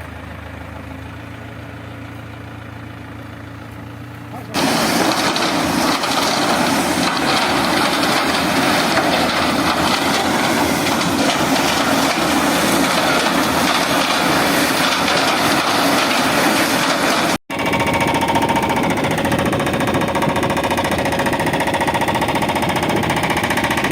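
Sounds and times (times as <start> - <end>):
heavy earthmoving machine clattering: 4.3 - 23.9.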